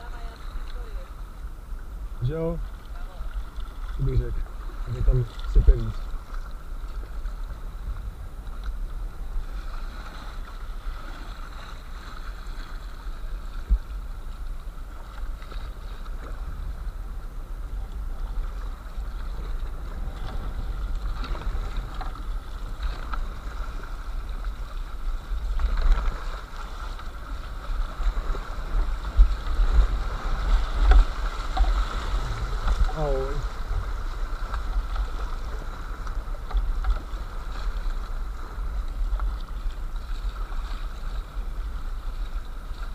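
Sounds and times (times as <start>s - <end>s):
low microphone rumble: 0.0s - 42.9s
paddle strokes in water: 0.0s - 42.9s
river water rushing and splashing: 0.0s - 42.9s.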